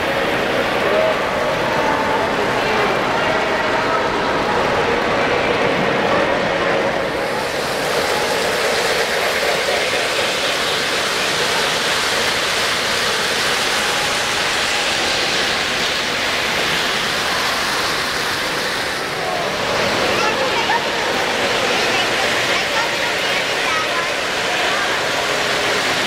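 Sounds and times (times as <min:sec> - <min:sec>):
model trains rolling on track: 0:00.0 - 0:26.0.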